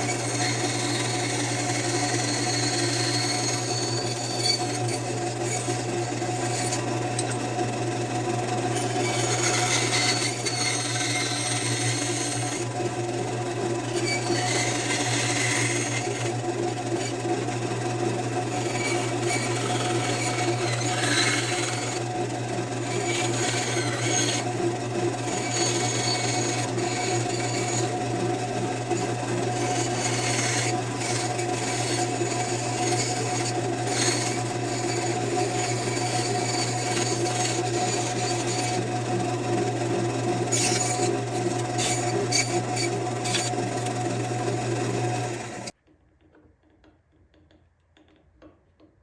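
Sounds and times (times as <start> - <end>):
wood rasping: 0.0 - 45.7
power tool humming: 0.0 - 45.8.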